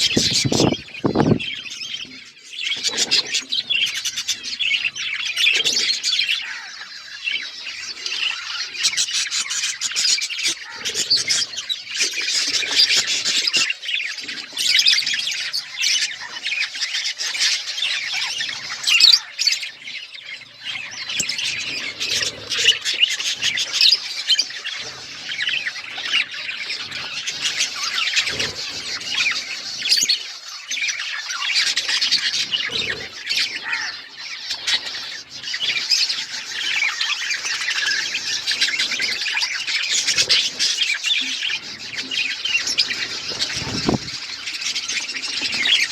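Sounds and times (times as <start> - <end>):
bird squawks: 0.0 - 45.9
budgerigars chattering and chirping: 0.0 - 45.9.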